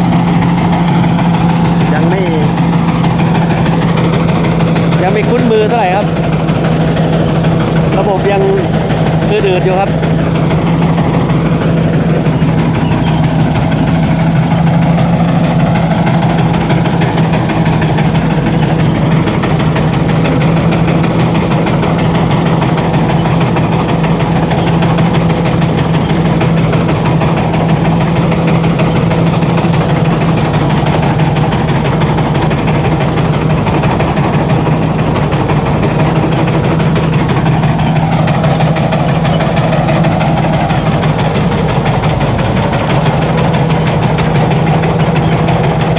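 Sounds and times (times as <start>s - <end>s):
diesel engine droning: 0.0s - 45.9s
high whine: 0.0s - 45.9s.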